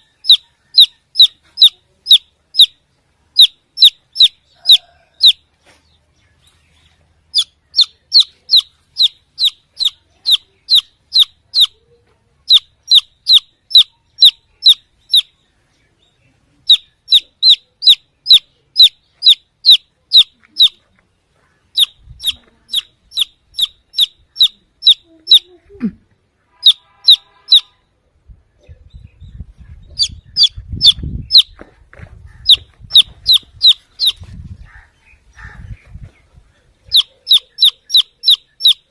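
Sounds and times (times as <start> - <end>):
chick peeping loudly: 0.0 - 15.5, 16.6 - 20.8, 21.6 - 25.6, 26.5 - 27.8, 28.6 - 31.6, 32.2 - 38.9.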